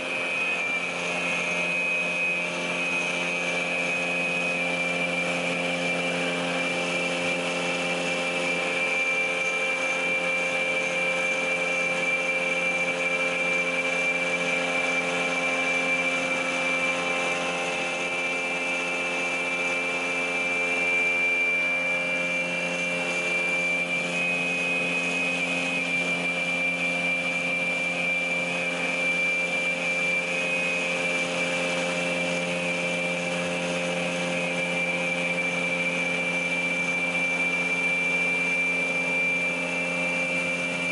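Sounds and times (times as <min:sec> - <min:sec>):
saw motor humming and whining: 0:00.0 - 0:40.9.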